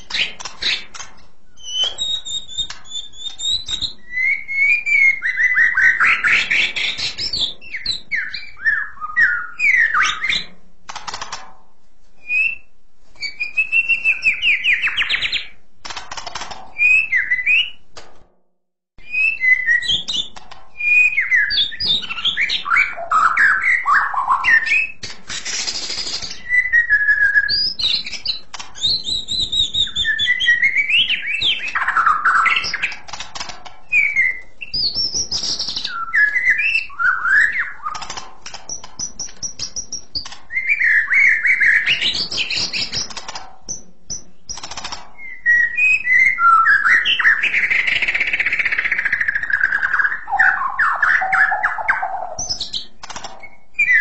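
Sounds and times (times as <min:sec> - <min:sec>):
bird singing whistled song: 0:01.5 - 0:10.5, 0:12.2 - 0:15.6, 0:16.8 - 0:17.8, 0:19.0 - 0:33.0, 0:33.9 - 0:54.0.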